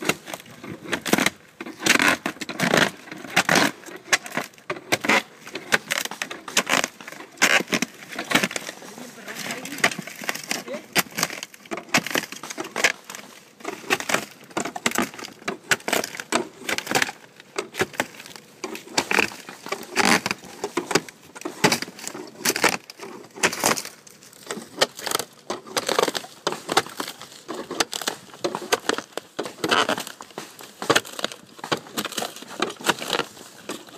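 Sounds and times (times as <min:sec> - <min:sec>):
scraping and crackling: 0:00.0 - 0:33.9
wood shakes cracking and splintering: 0:00.0 - 0:33.9.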